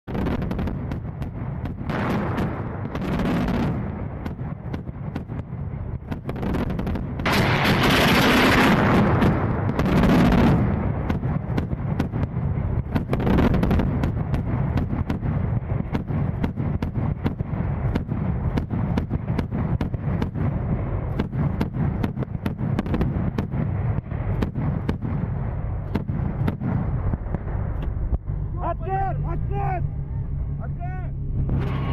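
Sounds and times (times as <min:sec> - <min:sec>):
steady low rumble: 0:00.0 - 0:31.9
gunfire shots: 0:00.1 - 0:05.5, 0:06.1 - 0:12.3, 0:12.9 - 0:27.4.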